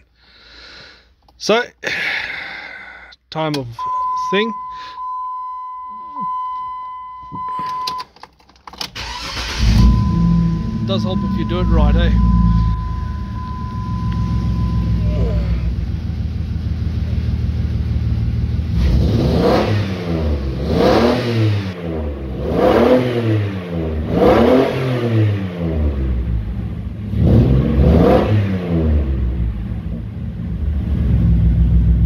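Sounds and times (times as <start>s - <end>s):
car engine idling and revving: 5.0s - 32.0s.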